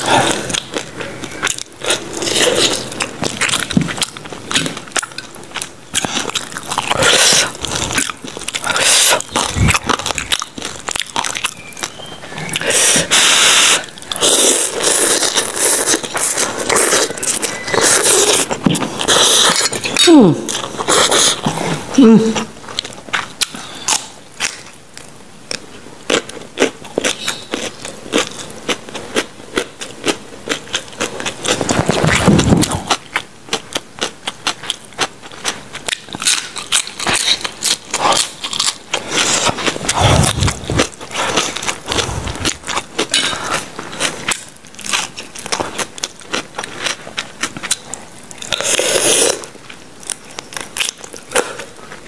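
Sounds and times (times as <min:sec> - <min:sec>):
chewing raw vegetables: 0:00.0 - 0:52.0.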